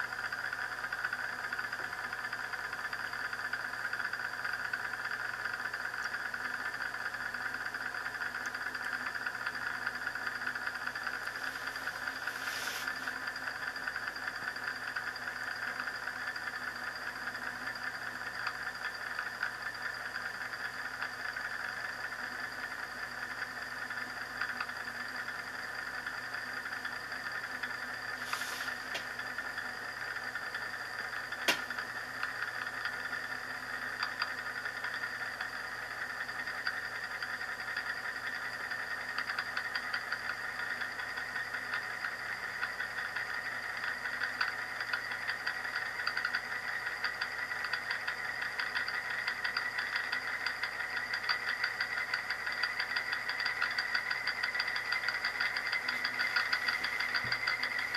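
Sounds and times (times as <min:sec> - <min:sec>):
spinning disc whirring on glass: 0:00.0 - 0:57.9.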